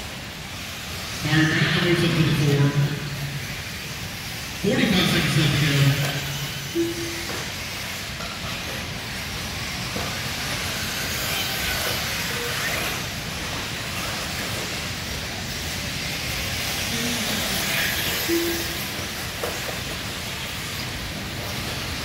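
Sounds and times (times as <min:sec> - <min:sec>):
rc truck engines racing: 0:00.0 - 0:22.0.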